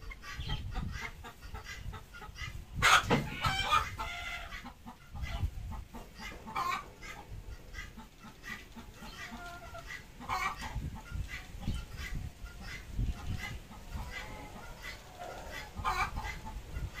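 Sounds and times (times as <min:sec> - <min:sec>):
hen clucking: 0:00.0 - 0:17.0.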